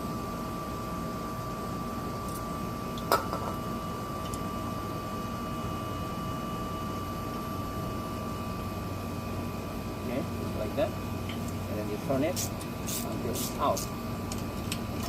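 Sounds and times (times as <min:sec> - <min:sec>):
mechanical hum with high tone: 0:00.0 - 0:15.0.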